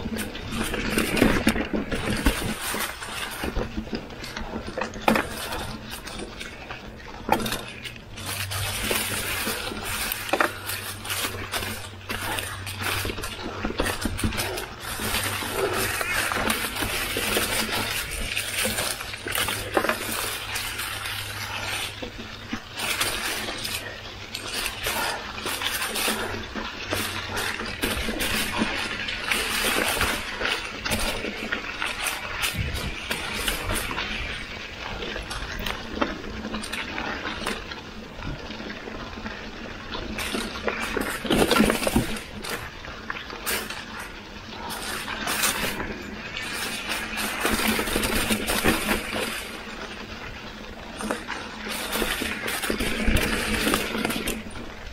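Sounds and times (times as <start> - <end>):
bike clinking and rattling: 0.0 - 54.9
bike tyres crunching through leaves: 0.0 - 54.9.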